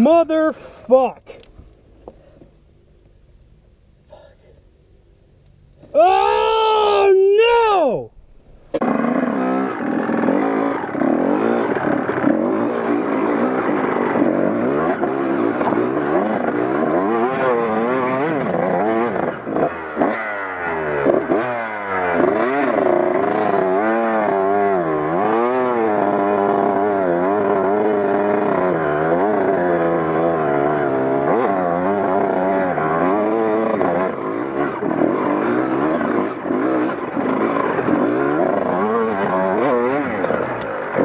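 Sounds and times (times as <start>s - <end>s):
dirt bike engine revving: 6.0s - 41.0s.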